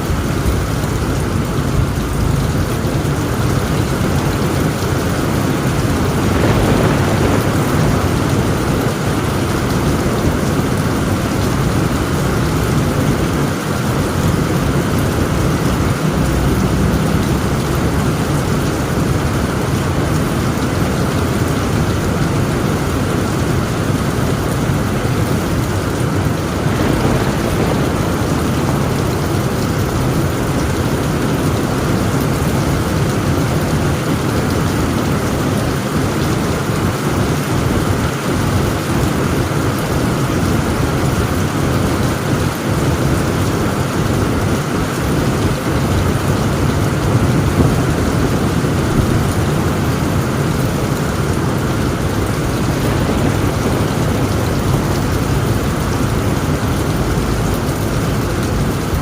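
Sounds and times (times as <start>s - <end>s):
heavy rain on a tent roof: 0.0s - 59.0s
low rumbling thunder: 0.0s - 59.0s.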